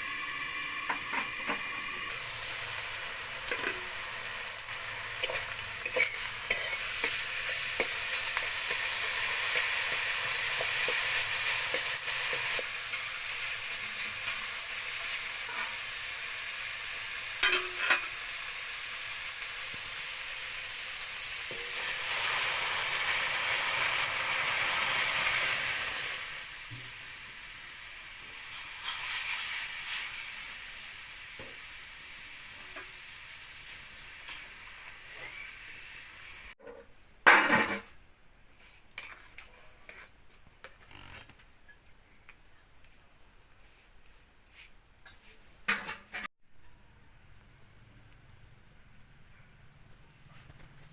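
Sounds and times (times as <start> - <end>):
food sizzling in a pan: 0.0 - 42.7.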